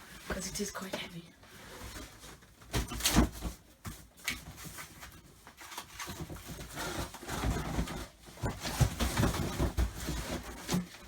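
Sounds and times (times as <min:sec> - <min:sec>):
cardboard packaging rustling: 0:01.6 - 0:11.0.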